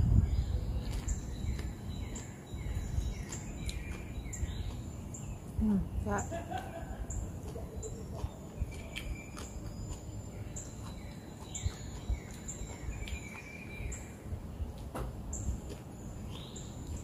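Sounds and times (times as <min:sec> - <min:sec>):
birds chirping: 0:00.0 - 0:17.0
steady low rumble: 0:00.0 - 0:17.0
sharp clicks of chewing salad: 0:00.8 - 0:05.6, 0:06.4 - 0:14.0, 0:14.8 - 0:17.0.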